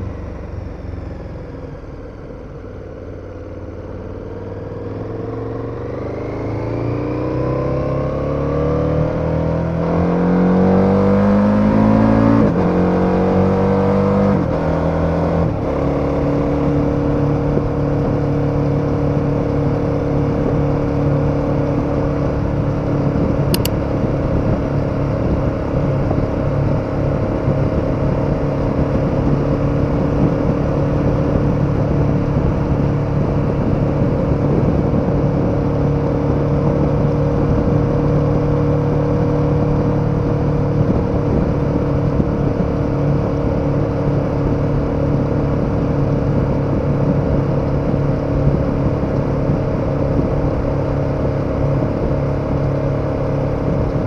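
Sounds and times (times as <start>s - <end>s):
motorcycle engine cruising: 0.0s - 54.0s
road noise: 0.0s - 54.0s
wind noise: 8.7s - 54.0s.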